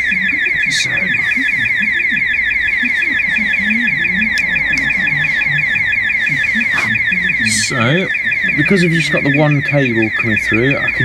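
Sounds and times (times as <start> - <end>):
electronic alarm sweeps: 0.0 - 11.0.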